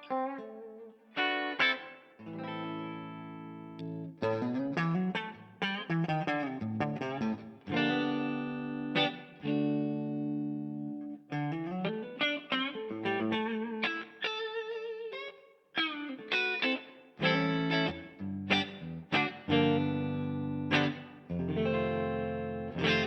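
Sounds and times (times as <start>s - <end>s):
electric guitar notes and chords: 0.0s - 23.0s.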